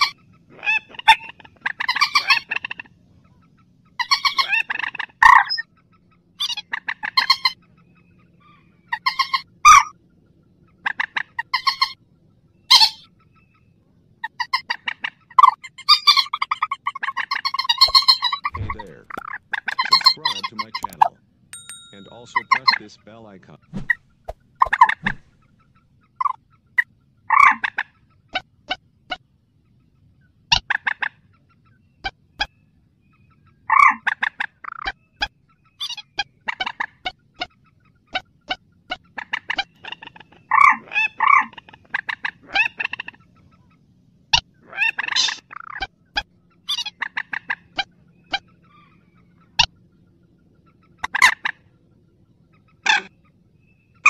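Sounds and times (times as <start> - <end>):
rail bird calling: 0.0 - 54.0.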